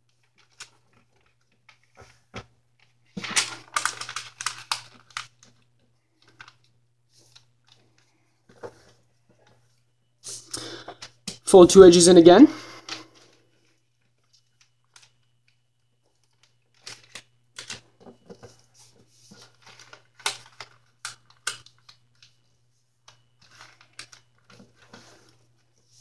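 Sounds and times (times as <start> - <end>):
paper crinkling and rustling: 0.0 - 9.9, 13.2 - 26.0.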